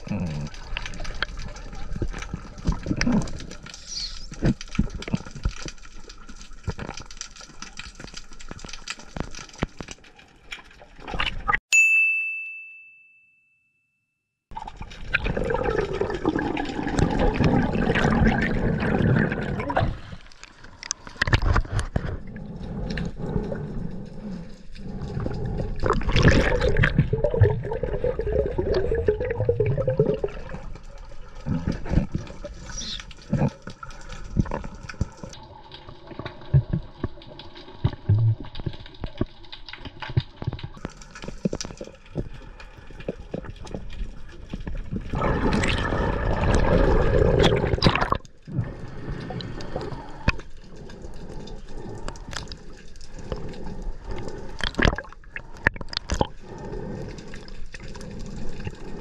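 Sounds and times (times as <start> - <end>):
water sloshing and gurgling: 0.0 - 11.6, 14.5 - 59.0.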